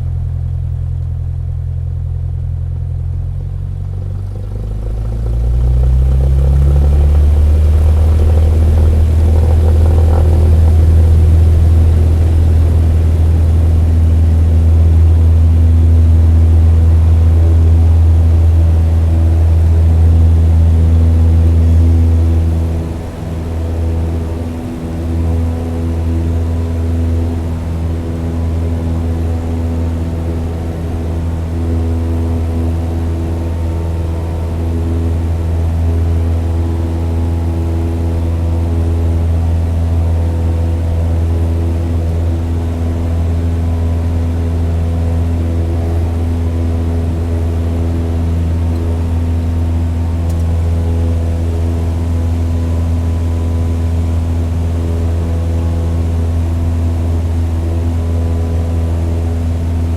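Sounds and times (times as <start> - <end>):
model airplane motor drone: 3.5 - 59.9.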